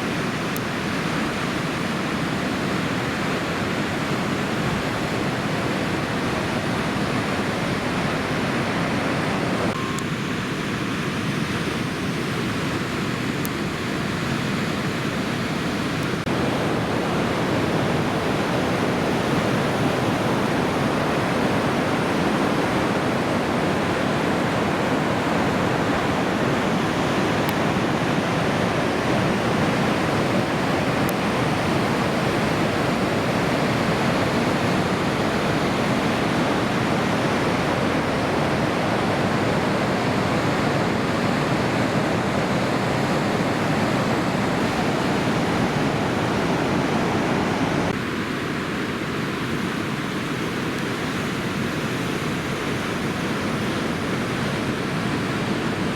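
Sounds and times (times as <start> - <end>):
heavy surf waves breaking: 0.0 - 55.9.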